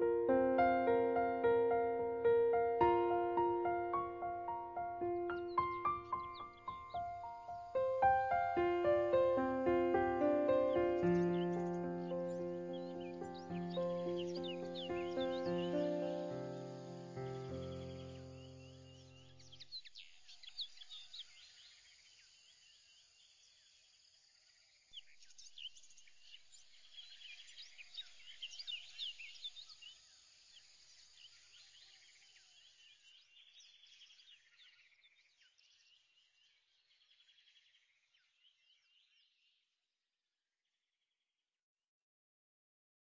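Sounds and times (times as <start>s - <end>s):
small birds chirping and trilling: 0.0s - 39.7s.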